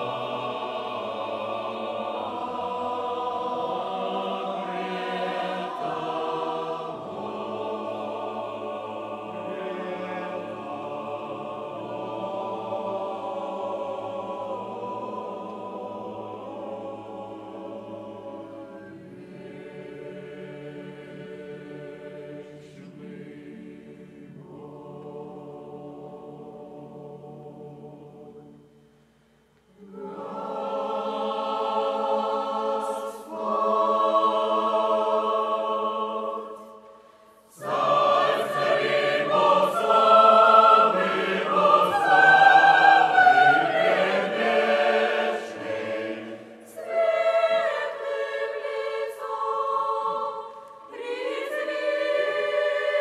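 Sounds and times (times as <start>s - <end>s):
mixed choir singing chords: 0.0s - 29.0s, 29.7s - 53.0s.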